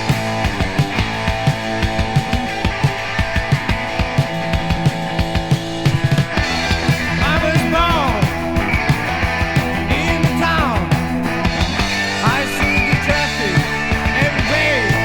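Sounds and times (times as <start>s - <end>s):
heavy metal band playing: 0.0s - 15.0s.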